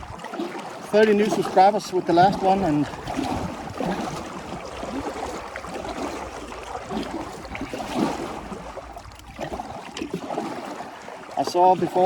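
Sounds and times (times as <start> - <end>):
river water rushing around kayak: 0.0 - 12.0.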